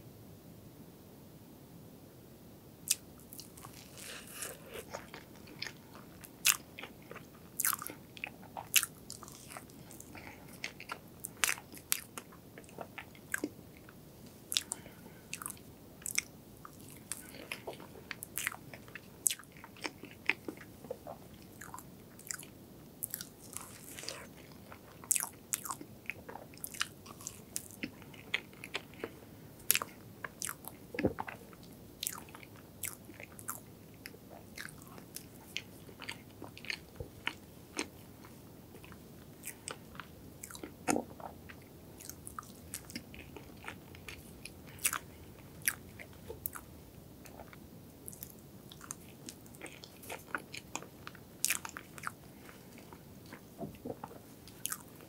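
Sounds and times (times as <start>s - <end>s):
person chewing: 2.9s - 33.6s, 34.3s - 55.0s.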